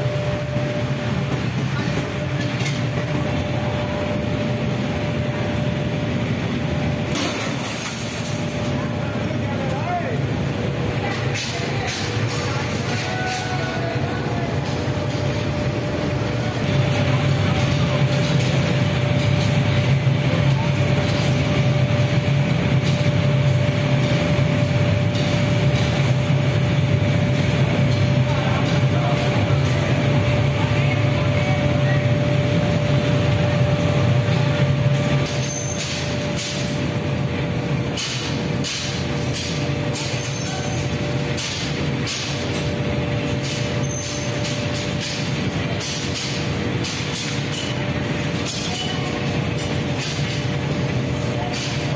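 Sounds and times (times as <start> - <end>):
constant hum tone: 0.0 - 51.9
furnace burner and blower rumbling: 0.0 - 51.9.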